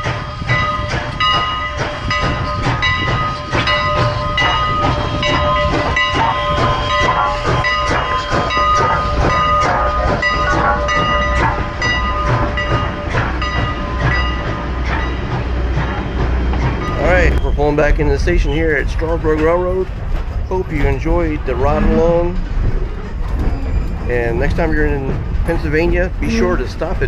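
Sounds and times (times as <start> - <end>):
train rumbling past: 0.0 - 27.0.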